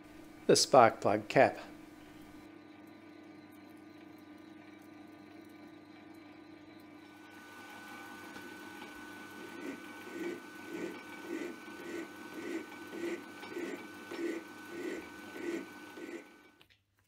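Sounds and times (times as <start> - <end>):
metal lathe humming: 1.8 - 16.6.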